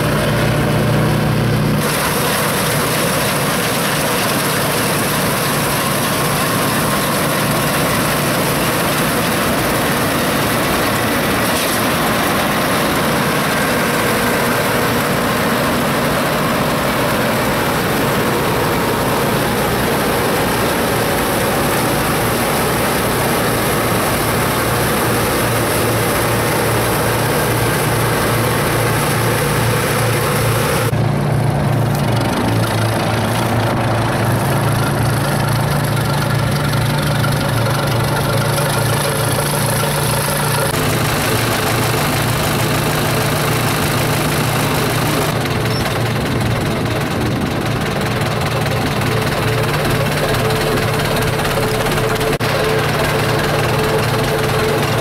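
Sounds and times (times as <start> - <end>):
combine harvester engine: 0.0 - 55.0
threshing machinery noise: 0.0 - 55.0.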